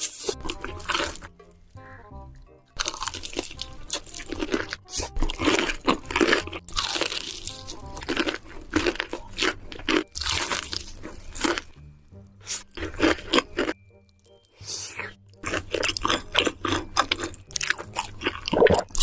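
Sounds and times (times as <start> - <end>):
person chewing crisp food: 0.0 - 11.8, 12.4 - 19.0.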